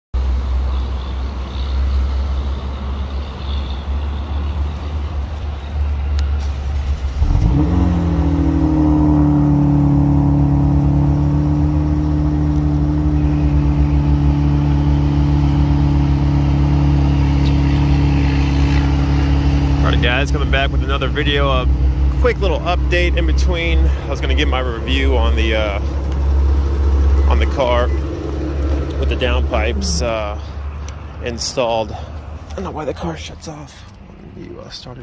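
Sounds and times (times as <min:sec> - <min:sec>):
car exhaust rumble: 0:03.1 - 0:32.1.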